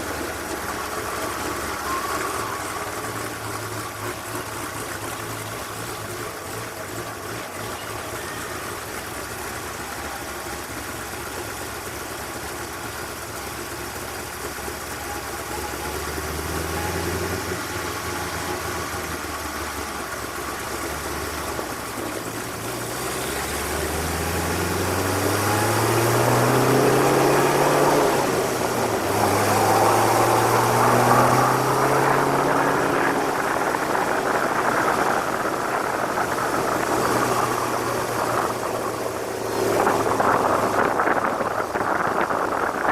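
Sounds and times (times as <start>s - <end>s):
race car engines revving: 0.0s - 42.9s.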